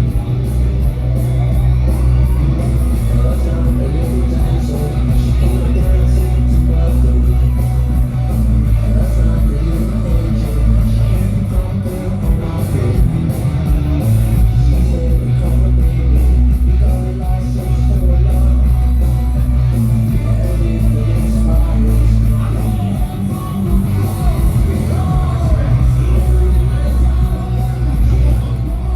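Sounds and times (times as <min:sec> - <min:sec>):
loud rock music: 0:00.0 - 0:28.9.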